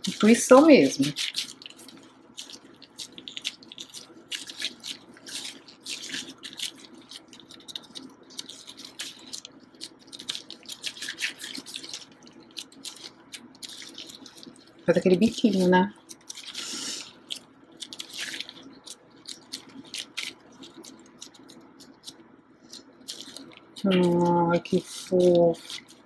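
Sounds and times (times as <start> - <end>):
dough squishing: 0.0 - 26.0
plastic gloves crinkling: 0.0 - 26.0.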